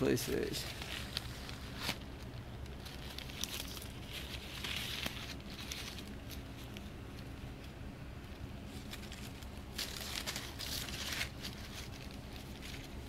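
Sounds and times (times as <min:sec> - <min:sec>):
paper ball crinkling: 0:00.0 - 0:13.0.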